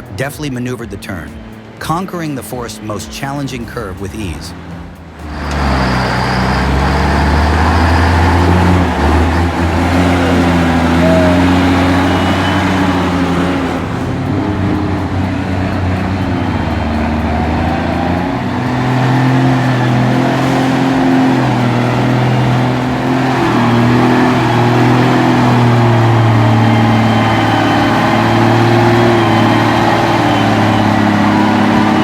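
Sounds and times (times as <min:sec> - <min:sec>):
diesel engine running hard: 0:00.0 - 0:32.0.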